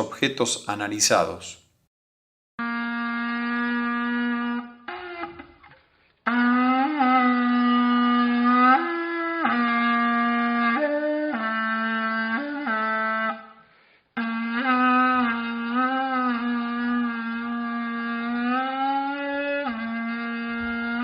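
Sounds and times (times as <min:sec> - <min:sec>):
buzzy wind instrument notes: 0:02.6 - 0:21.0.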